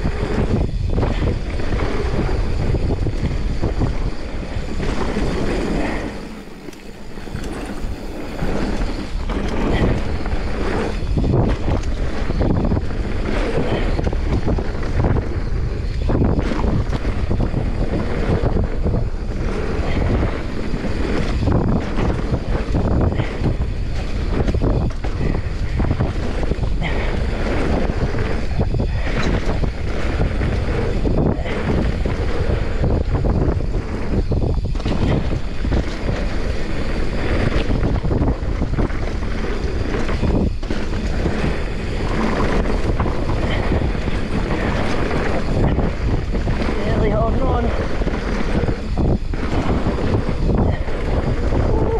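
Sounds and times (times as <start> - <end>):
bike knocks and rattles: 0.0 - 51.9
bike tyres rumbling over trail: 0.0 - 51.9
wind buffeting microphone: 0.0 - 51.9.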